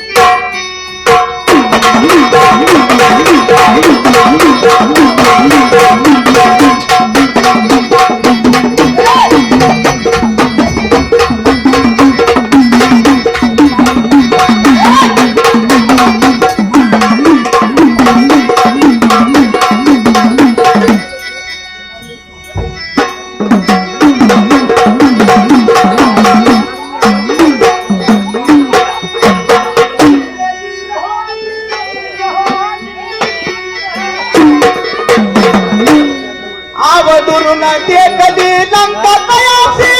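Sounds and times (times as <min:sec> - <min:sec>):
keyboard: 0:00.0 - 0:39.9
two-headed stick drum: 0:00.1 - 0:21.2, 0:22.4 - 0:30.4, 0:31.7 - 0:36.3.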